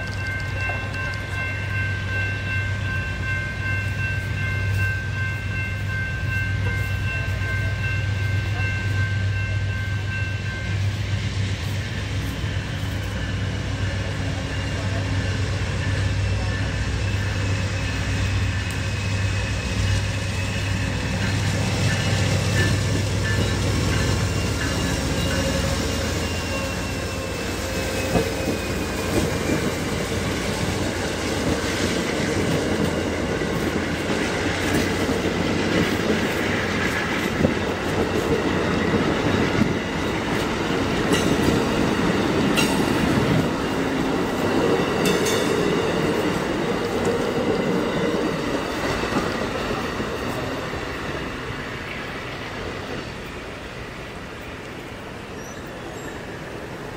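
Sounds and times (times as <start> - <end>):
locomotive engine drone: 0.0 - 56.9
passing train cars rumbling: 0.0 - 56.9
train wheels clicking on rails: 0.0 - 56.9.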